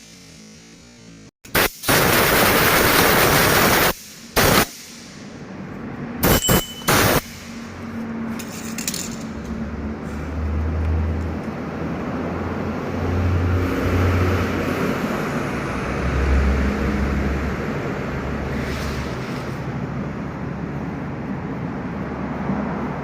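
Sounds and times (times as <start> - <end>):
road and tyre noise: 0.0 - 23.0.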